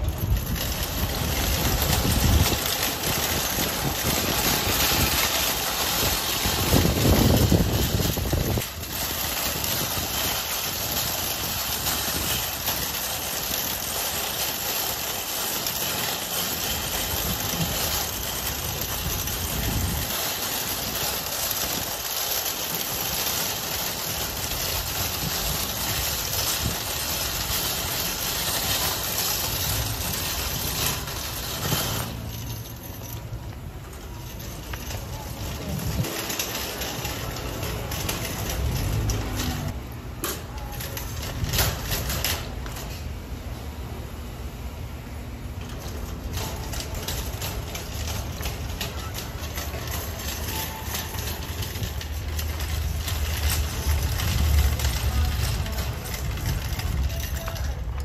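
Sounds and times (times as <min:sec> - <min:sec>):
shopping cart wheels rattling: 0:00.0 - 0:58.0.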